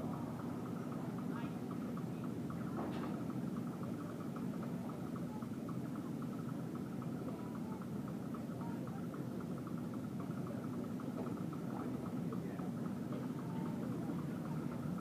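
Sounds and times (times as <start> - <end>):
faint fast ticking: 0.0 - 15.0
low indoor rumble: 0.0 - 15.0.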